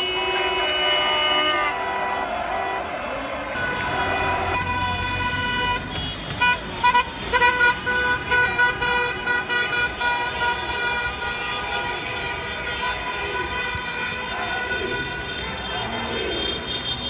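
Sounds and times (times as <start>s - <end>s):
held car horn: 0.0s - 2.9s, 3.6s - 17.0s
passing traffic: 0.0s - 17.0s.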